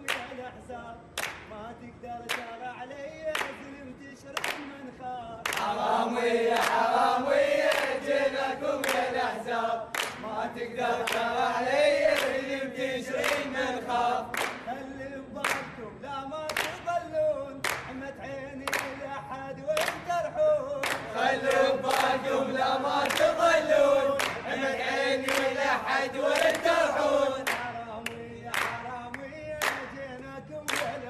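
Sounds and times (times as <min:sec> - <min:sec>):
hand clapping: 0:00.0 - 0:00.5, 0:01.2 - 0:01.6, 0:02.2 - 0:02.7, 0:03.3 - 0:05.8, 0:06.5 - 0:08.0, 0:08.8 - 0:09.2, 0:09.9 - 0:12.5, 0:13.1 - 0:31.0
men singing in unison: 0:00.0 - 0:31.0.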